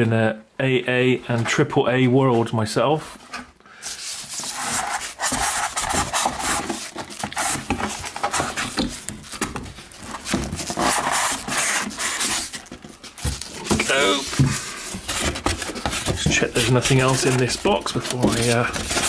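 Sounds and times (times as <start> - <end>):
cardboard flaps scraping: 3.2 - 19.0.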